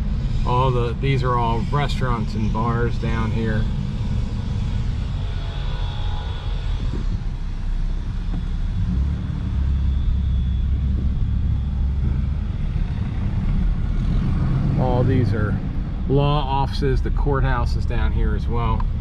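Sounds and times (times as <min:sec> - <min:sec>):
motor vehicle engine rumble: 0:00.0 - 0:19.0.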